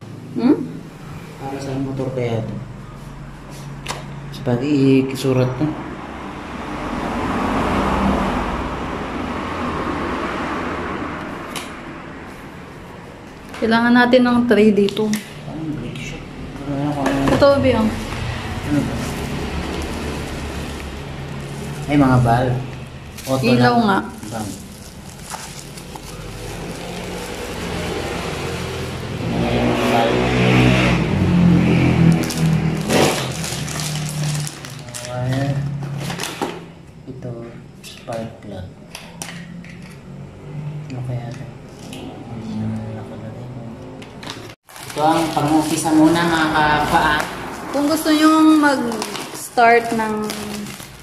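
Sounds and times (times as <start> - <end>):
passing vehicle: 0.0 - 51.0.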